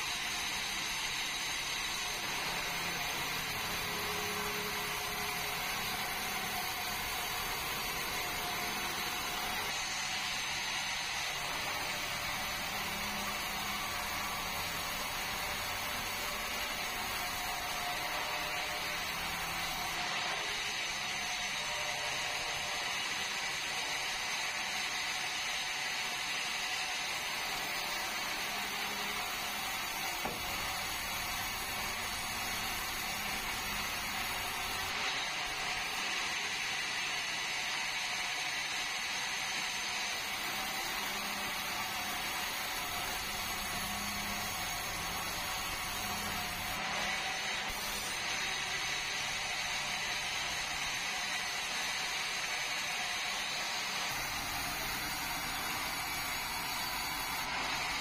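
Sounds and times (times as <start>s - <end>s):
band saw cutting timber: 0.0s - 58.0s.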